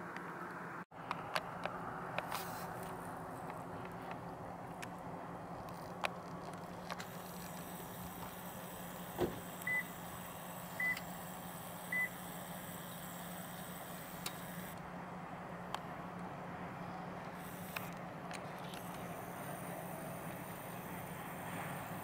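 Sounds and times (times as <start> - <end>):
vehicle engine idling: 0.4 - 22.0.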